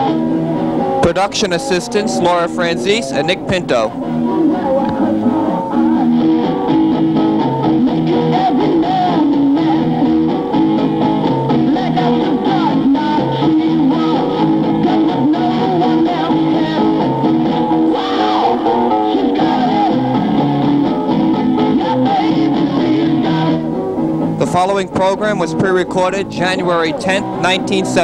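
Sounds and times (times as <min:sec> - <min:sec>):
guitar-led music: 0:00.0 - 0:28.0.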